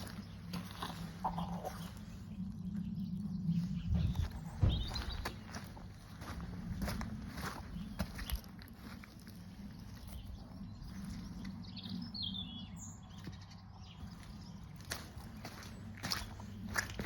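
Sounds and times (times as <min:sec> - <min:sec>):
crunch: 0:00.0 - 0:12.0, 0:14.0 - 0:17.0
steady low hum: 0:00.0 - 0:17.0.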